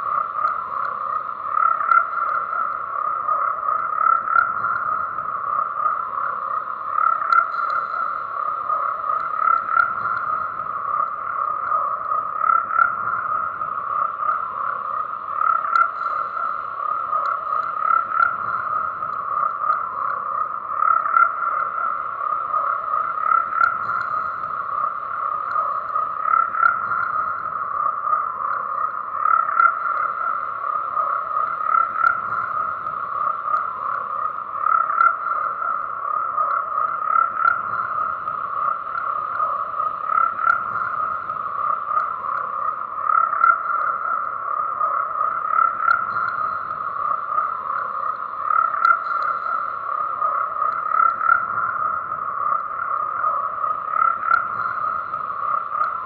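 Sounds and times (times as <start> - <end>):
frogs croaking in chorus: 0.0 - 56.0.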